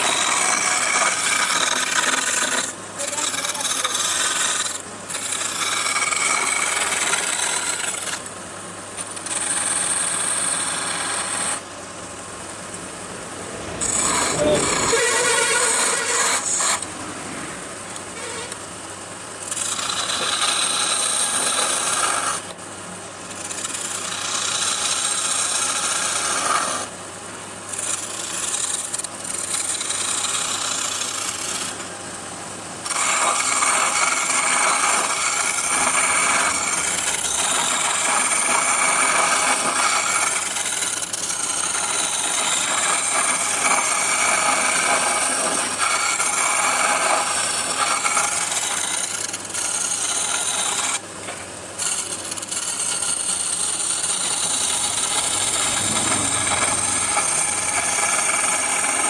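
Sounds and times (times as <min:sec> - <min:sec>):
wood lathe tool scraping: 0:00.0 - 0:08.3, 0:08.9 - 0:22.6, 0:23.2 - 0:26.9, 0:27.7 - 0:31.9, 0:32.8 - 0:51.0, 0:51.8 - 0:59.0.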